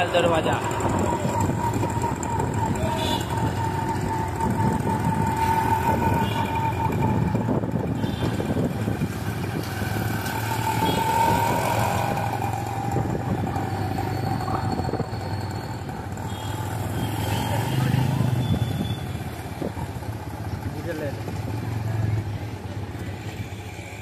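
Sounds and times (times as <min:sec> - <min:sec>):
engine whine: 0:00.0 - 0:20.3
auto-rickshaw engine: 0:00.0 - 0:24.0
motorbike engine: 0:00.0 - 0:24.0.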